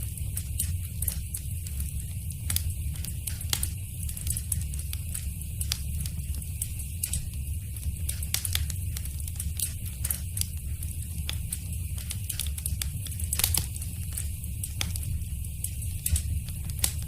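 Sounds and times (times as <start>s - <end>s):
fire pops and snaps: 0.0s - 17.0s
low rumble of burning fire: 0.0s - 17.0s.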